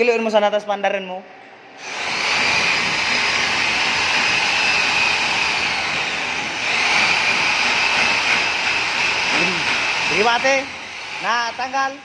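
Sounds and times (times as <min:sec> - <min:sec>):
electric power tool whining: 0:01.8 - 0:11.8.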